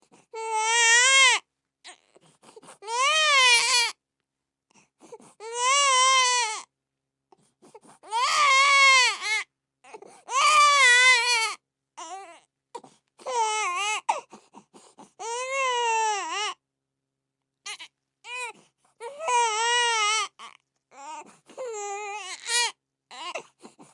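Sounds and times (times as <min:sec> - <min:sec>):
newborn baby crying: 0:00.3 - 0:02.2, 0:02.8 - 0:04.0, 0:05.2 - 0:06.7, 0:07.7 - 0:16.6, 0:17.6 - 0:23.9.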